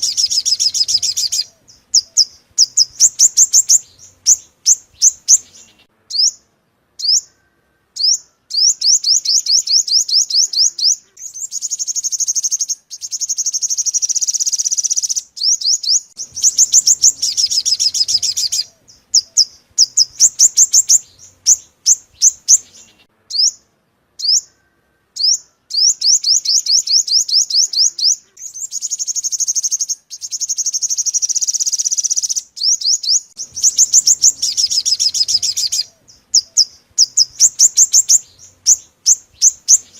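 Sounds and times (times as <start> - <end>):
bird song chips and trills: 0.0 - 39.9.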